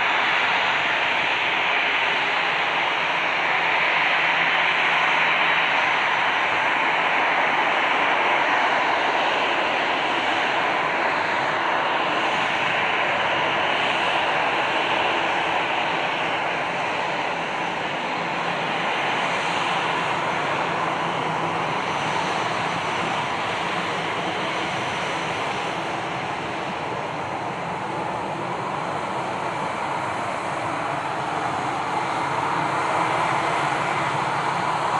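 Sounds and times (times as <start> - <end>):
jet engine roar: 0.0 - 34.9.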